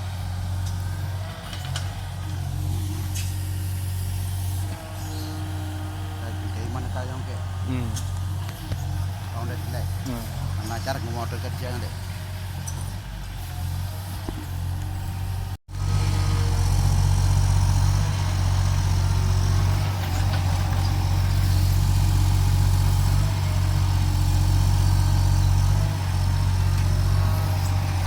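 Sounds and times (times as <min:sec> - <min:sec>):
construction vehicle engine idling: 0:00.0 - 0:28.0.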